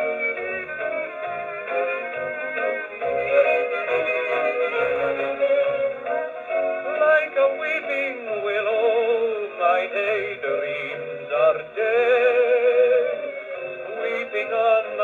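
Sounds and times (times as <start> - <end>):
gramophone playing old popular song: 0.0 - 15.0.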